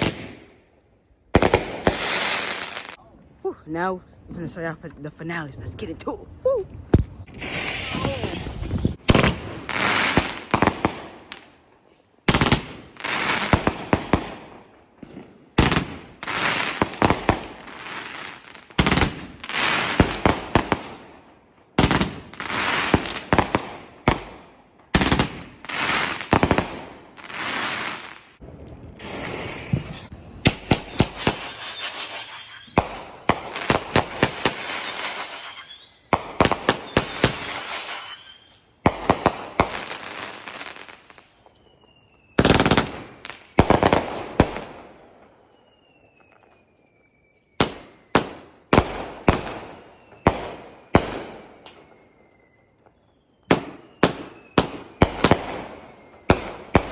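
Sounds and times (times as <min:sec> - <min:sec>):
fireworks bangs and crackling: 0:00.0 - 0:00.6, 0:01.2 - 0:03.0, 0:06.8 - 0:56.9.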